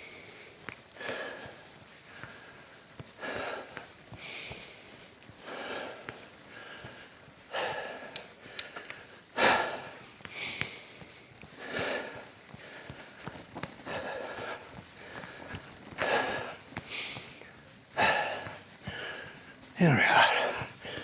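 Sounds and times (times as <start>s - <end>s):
person breathing heavily: 0.0s - 21.0s.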